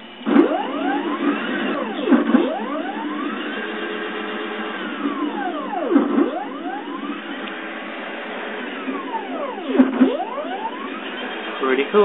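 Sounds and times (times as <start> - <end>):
stepper motor whine: 0.1 - 12.0.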